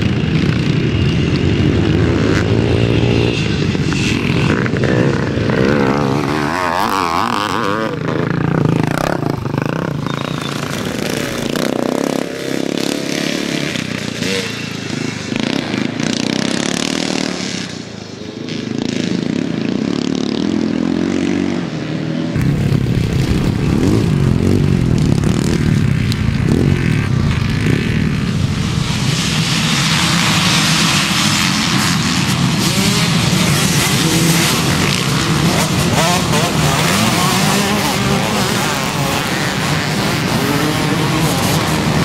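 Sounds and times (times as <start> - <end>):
motocross bike engine: 0.0 - 42.0
pack of motorcycles revving: 0.0 - 42.0.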